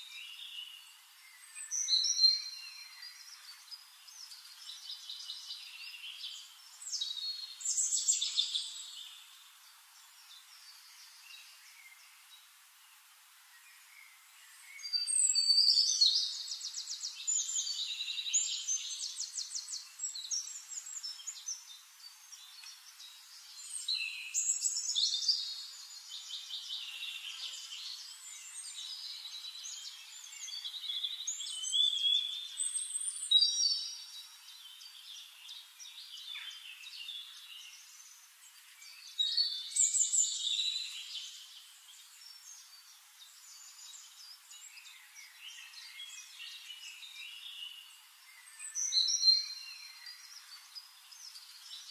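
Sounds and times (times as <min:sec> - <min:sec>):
songbirds trilling and chirping: 0:00.0 - 0:51.9.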